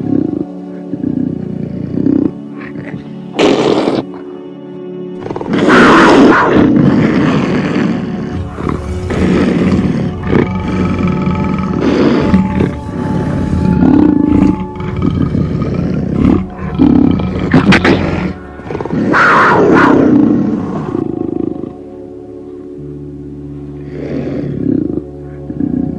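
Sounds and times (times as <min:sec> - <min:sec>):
big cat roaring and growling: 0:00.0 - 0:04.1, 0:05.2 - 0:21.8, 0:24.4 - 0:25.9
background music with held tones: 0:00.0 - 0:25.9.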